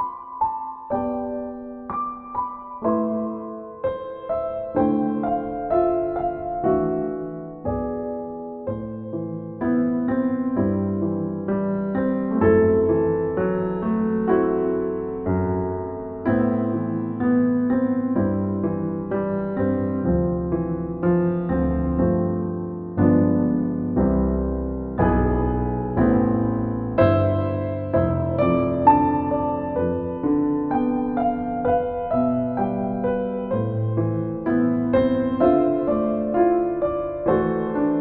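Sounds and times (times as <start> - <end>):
slow solo piano: 0.0 - 38.0.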